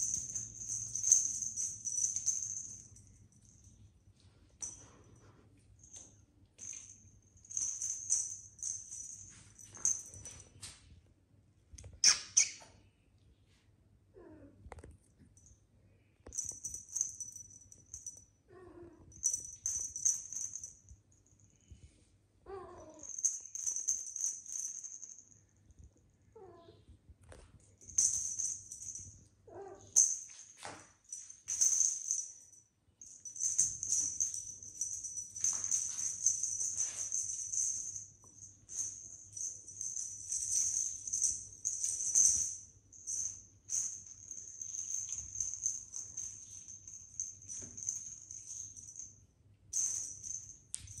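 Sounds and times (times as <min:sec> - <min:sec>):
small bell jingling: 0:00.0 - 0:04.0, 0:04.6 - 0:10.8, 0:16.2 - 0:18.4, 0:19.1 - 0:21.9, 0:22.8 - 0:25.9, 0:27.8 - 0:51.0.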